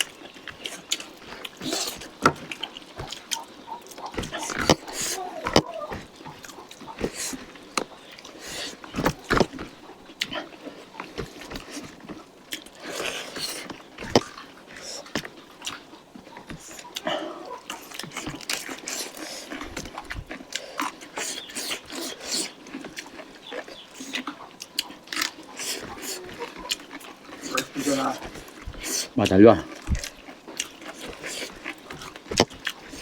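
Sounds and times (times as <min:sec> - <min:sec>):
chewing and lip-smacking: 0:00.0 - 0:33.0.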